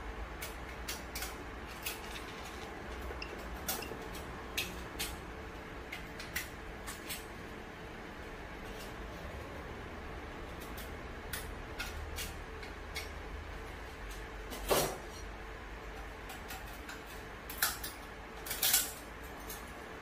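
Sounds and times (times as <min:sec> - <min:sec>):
printer fans humming: 0:00.0 - 0:20.0.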